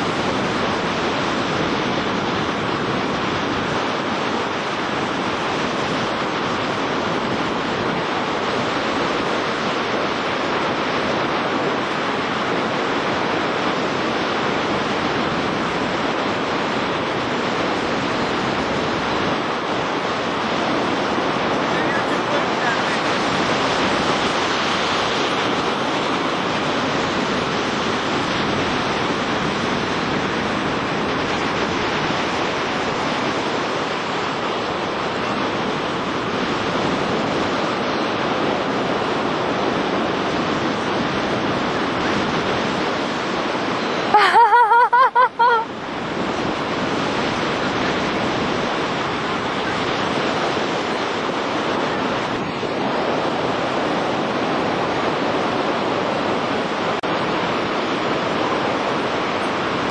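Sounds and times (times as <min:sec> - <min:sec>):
rushing wind: 0:00.0 - 0:59.9.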